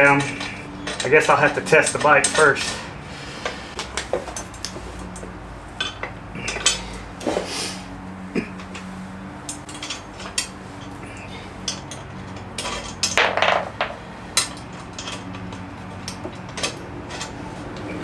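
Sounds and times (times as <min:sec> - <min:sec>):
metal parts clinking: 0:00.0 - 0:02.9, 0:03.8 - 0:06.9, 0:08.6 - 0:18.0.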